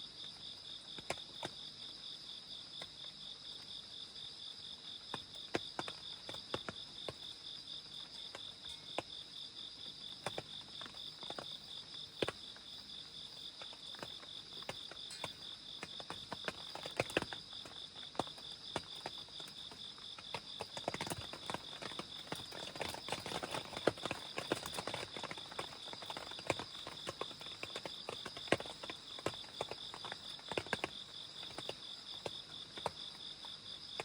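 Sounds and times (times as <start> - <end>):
crickets chirping: 0.0 - 34.0
raindrops ticking: 5.0 - 34.0.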